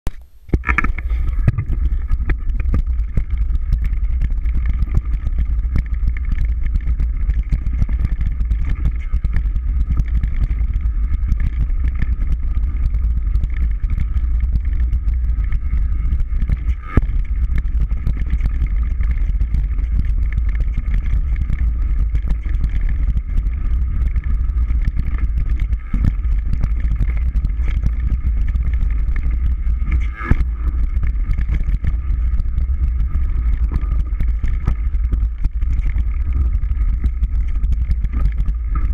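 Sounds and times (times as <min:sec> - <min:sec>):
bike vibration rumble: 0:00.0 - 0:38.9
clatter and knocks: 0:00.1 - 0:38.9
steady high buzz: 0:00.1 - 0:38.9
wind on microphone: 0:00.1 - 0:38.9.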